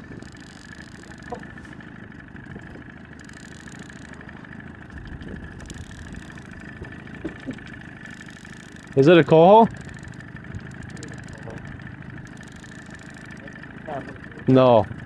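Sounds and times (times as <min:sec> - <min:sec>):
outboard boat motor running: 0:00.0 - 0:15.0.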